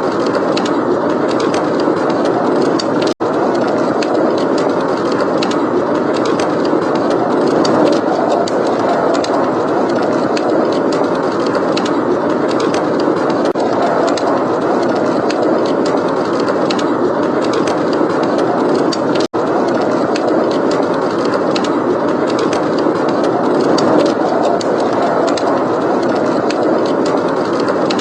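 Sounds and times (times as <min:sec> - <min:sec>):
heavy blizzard wind: 0:00.0 - 0:28.0
wood fire crackling: 0:00.0 - 0:28.0.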